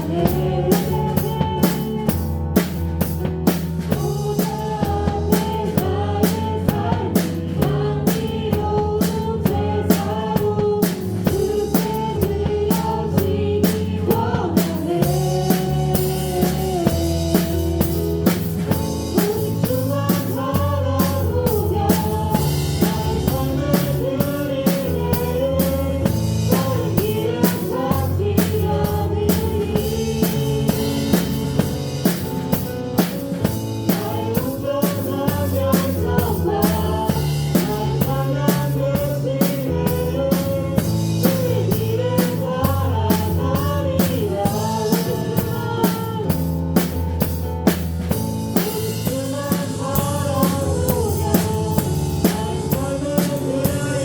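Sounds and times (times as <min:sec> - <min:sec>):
drum kit playing a beat: 0:00.0 - 0:54.0.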